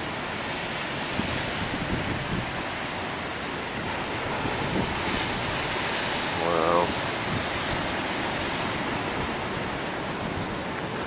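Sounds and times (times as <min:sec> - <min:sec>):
ocean surf crashing on rocks: 0:00.0 - 0:11.0
wind buffeting microphone: 0:00.0 - 0:11.0.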